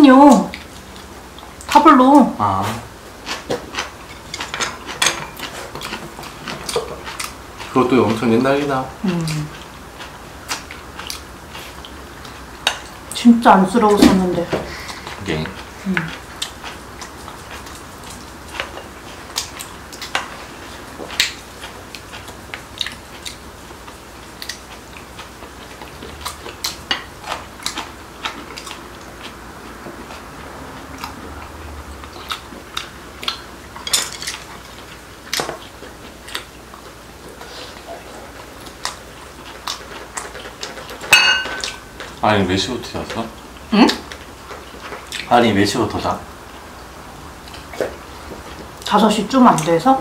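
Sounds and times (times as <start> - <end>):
chewing: 2.7 - 13.2, 14.6 - 45.4, 46.4 - 49.8.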